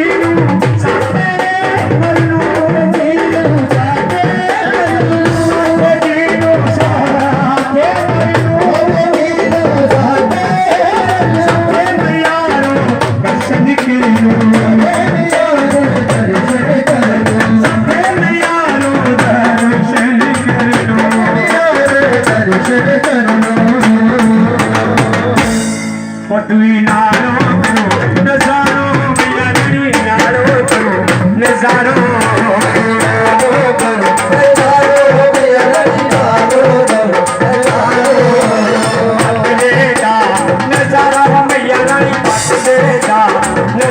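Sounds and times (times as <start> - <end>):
hand drums: 0.0 - 43.9
person singing devotional song: 0.0 - 43.9.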